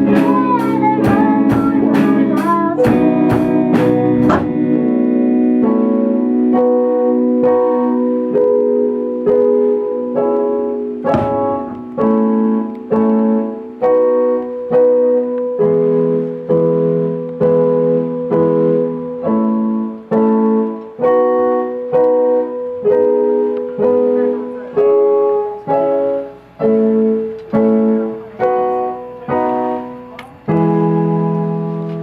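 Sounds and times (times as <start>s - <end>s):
piano chords: 0.0s - 32.0s.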